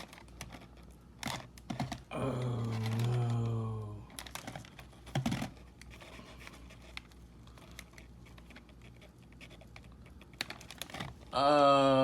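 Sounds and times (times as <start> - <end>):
faint clicks and scratches: 0.0 - 2.1, 2.7 - 11.2
packaging rustling: 0.0 - 11.3.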